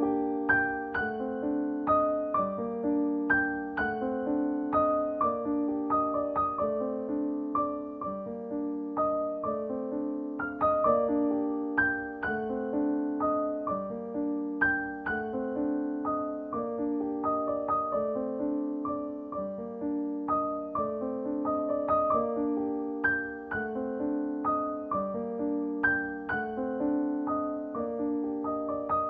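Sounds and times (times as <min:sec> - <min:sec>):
piano melody: 0:00.0 - 0:29.0.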